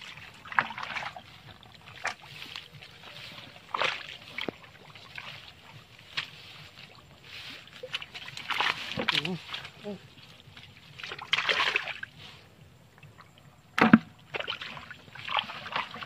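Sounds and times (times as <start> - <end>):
hands splashing in muddy water: 0.0 - 12.2, 13.8 - 16.0
grass rustling: 0.0 - 14.0.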